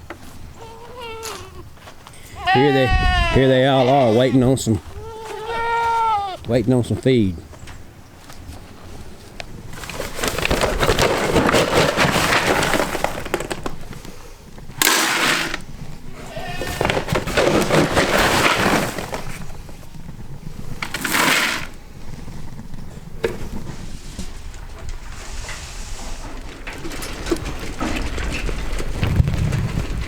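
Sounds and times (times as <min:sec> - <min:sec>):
crackling and rustling of feed: 0:00.0 - 0:30.0.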